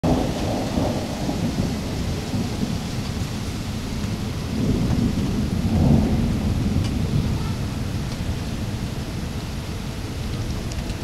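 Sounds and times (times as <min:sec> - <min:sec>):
low rumble of thunder: 0:00.0 - 0:11.0
rain hissing: 0:00.0 - 0:11.0.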